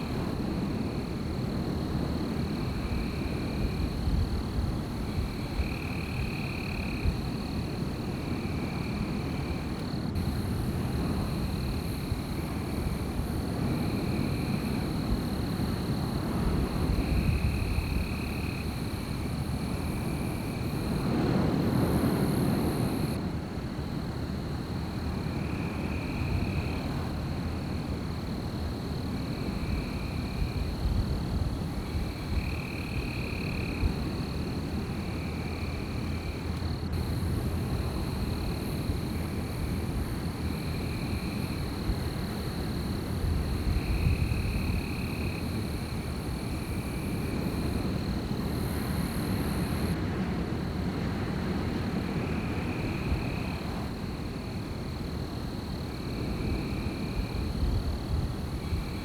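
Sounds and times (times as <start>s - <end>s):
wind rushing through trees: 0.0s - 59.0s.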